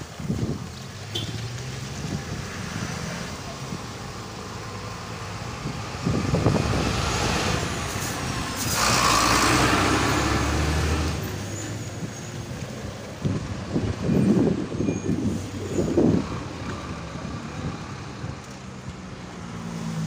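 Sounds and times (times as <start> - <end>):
engine and road noise: 0.0 - 20.0
vehicle passing close: 0.2 - 20.0.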